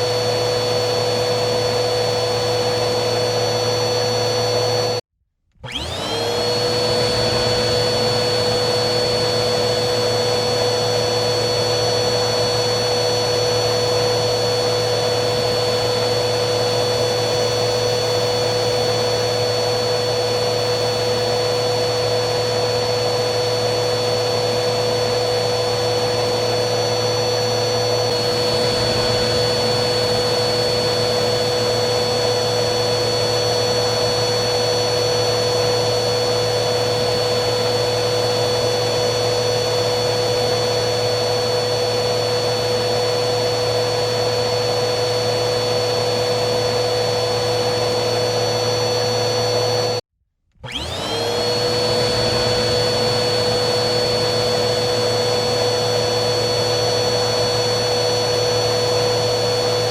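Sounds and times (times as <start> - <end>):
vacuum cleaner motor whining: 0.0 - 59.9.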